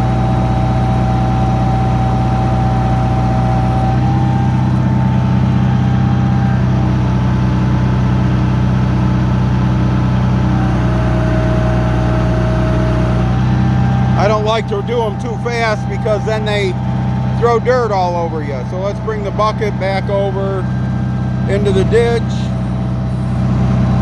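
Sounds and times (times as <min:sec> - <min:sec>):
backhoe engine running: 0:00.0 - 0:24.0
hydraulic whine: 0:00.0 - 0:24.0.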